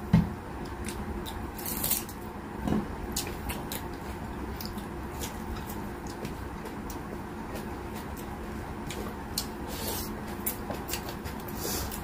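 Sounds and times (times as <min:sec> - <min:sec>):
person chewing crunchy food: 0:00.7 - 0:02.2, 0:03.1 - 0:12.0.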